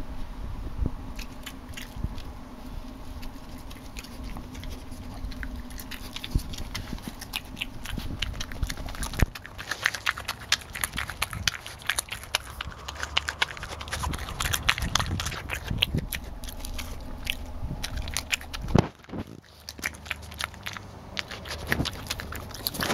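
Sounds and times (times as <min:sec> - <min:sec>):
badger crunching and chewing: 0:01.1 - 0:22.9.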